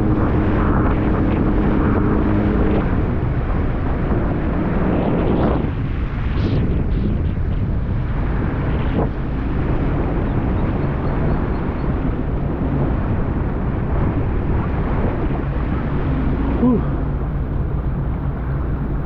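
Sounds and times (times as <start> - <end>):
jet ski engine running: 0.0 - 6.6, 7.8 - 19.0
wind noise on microphone: 0.0 - 19.0.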